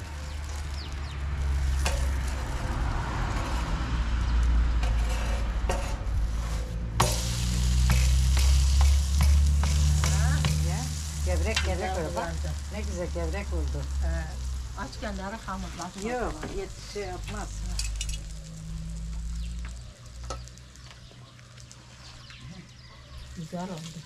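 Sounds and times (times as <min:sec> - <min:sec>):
dough sizzling over fire: 0:00.0 - 0:24.0.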